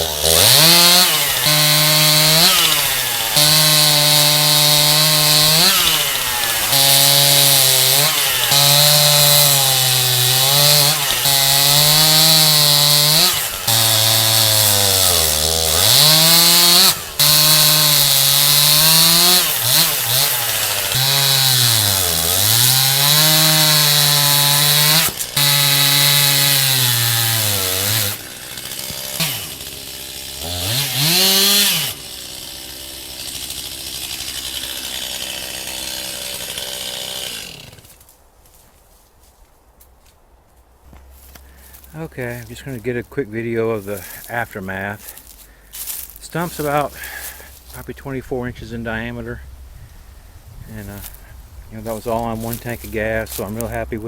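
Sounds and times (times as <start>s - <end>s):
chainsaw cutting log: 0.0s - 38.1s, 41.0s - 49.7s, 50.7s - 54.0s.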